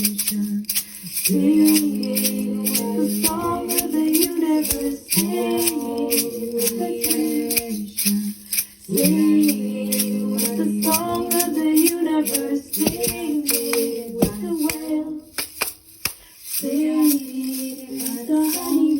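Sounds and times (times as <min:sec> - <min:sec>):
person singing wordlessly: 0:00.0 - 0:15.4, 0:16.5 - 0:18.9
shaker rattling a steady beat: 0:00.0 - 0:18.9.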